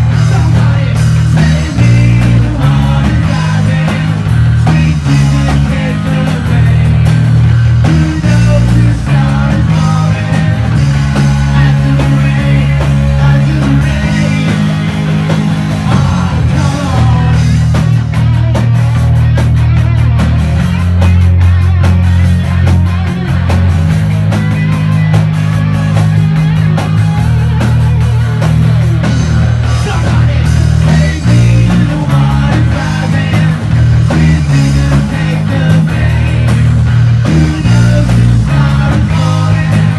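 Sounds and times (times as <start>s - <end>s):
drum kit with cymbals: 0.0s - 39.9s
electric bass: 0.0s - 39.9s
electric guitars: 0.0s - 39.9s.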